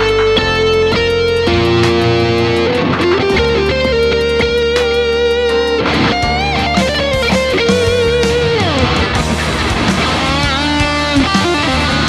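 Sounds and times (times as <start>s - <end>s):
bass line: 0.0s - 12.0s
drum beat: 0.0s - 12.0s
electric guitar lead with vibrato: 0.0s - 12.0s.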